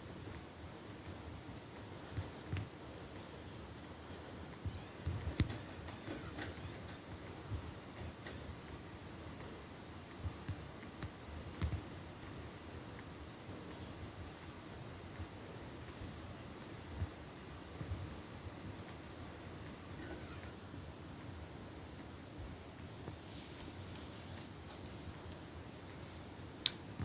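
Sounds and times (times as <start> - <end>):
soft high ticking: 0.1 - 26.8.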